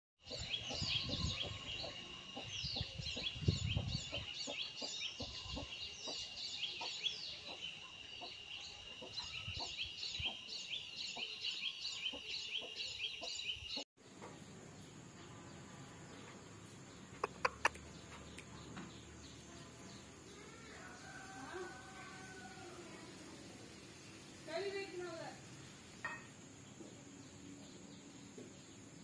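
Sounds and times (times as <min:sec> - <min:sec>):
small birds chirping: 0:00.2 - 0:29.0.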